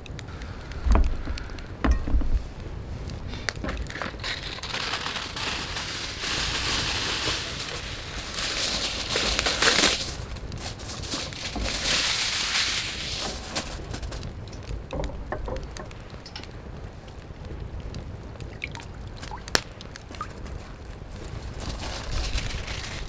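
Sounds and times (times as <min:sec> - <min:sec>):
aluminium foil crinkling: 0:00.0 - 0:16.6, 0:18.7 - 0:23.0.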